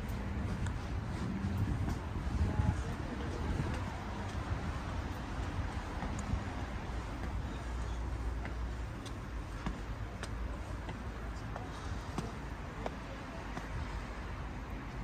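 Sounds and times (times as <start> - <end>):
light footsteps: 0.0 - 15.0
low outdoor rumble: 0.0 - 15.0.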